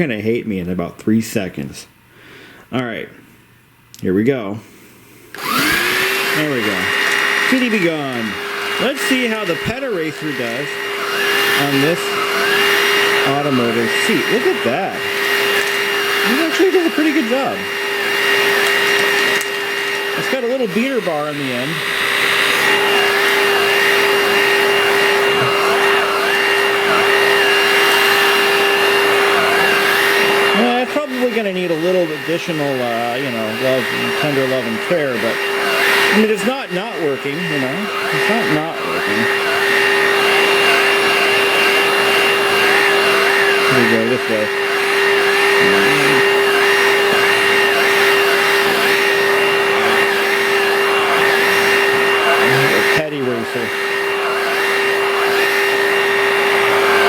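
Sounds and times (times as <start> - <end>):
handheld vacuum whining: 5.2 - 57.0.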